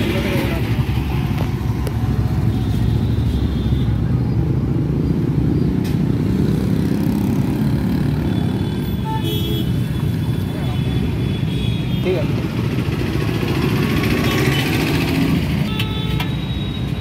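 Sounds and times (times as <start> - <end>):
passing vehicles rumble: 0.0 - 17.0.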